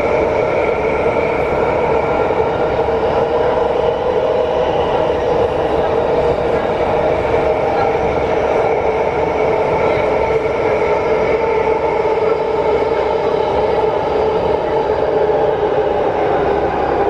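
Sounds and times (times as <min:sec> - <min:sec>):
multi-tone train whine: 0:00.0 - 0:17.0
train wheels rumbling on rail: 0:00.0 - 0:17.0.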